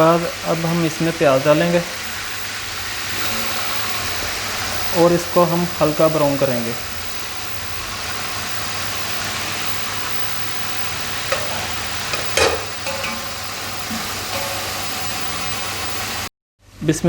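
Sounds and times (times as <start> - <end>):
chicken and onions sizzling in oil: 0.0 - 16.3.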